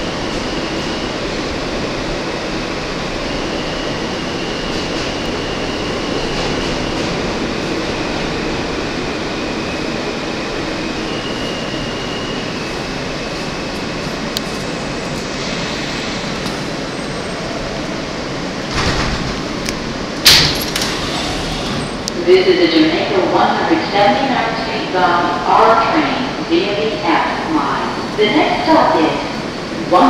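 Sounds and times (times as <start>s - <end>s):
subway car rumbling on rails: 0.0s - 30.0s.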